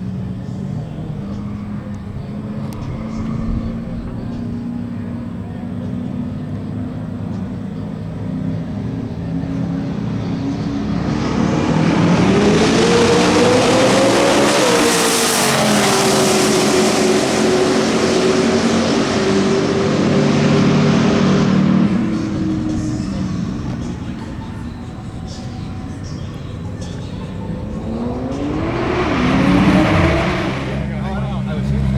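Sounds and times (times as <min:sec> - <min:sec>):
race car engine at full throttle: 0:00.0 - 0:31.9.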